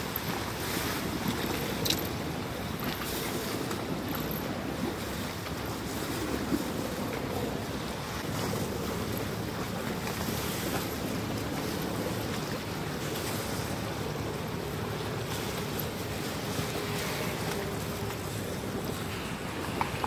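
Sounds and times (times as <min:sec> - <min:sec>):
boat engine drone: 0:00.0 - 0:20.0
churned water wash: 0:00.0 - 0:20.0.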